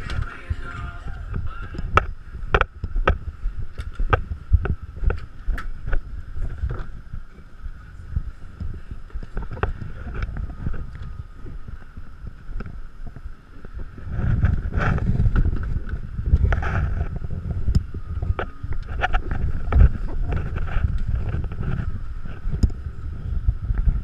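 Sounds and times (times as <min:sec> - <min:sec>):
faint steady whine: 0:00.0 - 0:24.0
wind buffeting microphone: 0:00.0 - 0:24.0.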